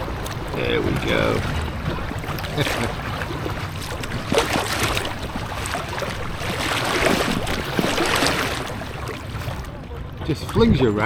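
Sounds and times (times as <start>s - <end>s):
river water rushing: 0.0s - 11.0s
short water splashes: 0.0s - 11.0s.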